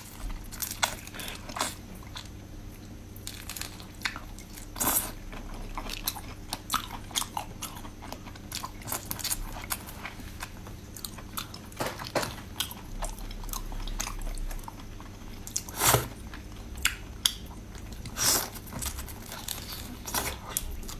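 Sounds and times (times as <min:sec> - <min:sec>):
person crunching and chewing food: 0:00.0 - 0:20.9.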